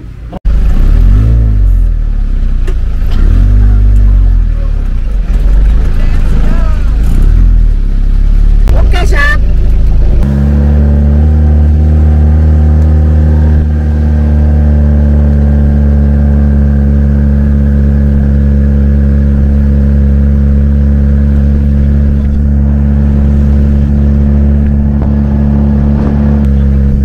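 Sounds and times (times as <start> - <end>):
jeep engine running: 0.0 - 27.0.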